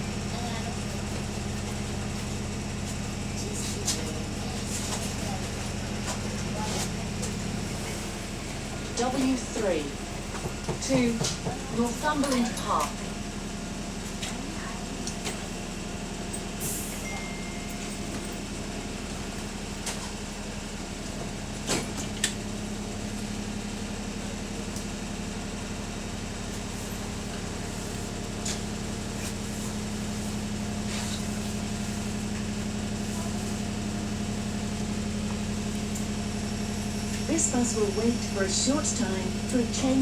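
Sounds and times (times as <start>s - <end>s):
bus diesel engine humming: 0.0s - 40.0s.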